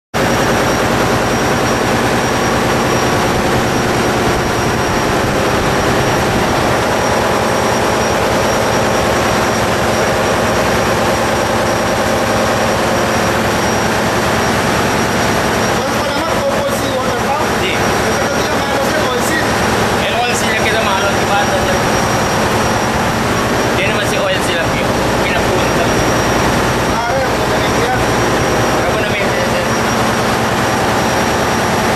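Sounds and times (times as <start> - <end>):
large diesel engine running: 0.2 - 31.9.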